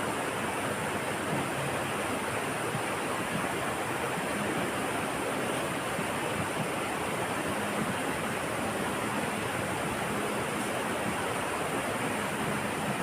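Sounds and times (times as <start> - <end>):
flowing river water: 0.0 - 13.0.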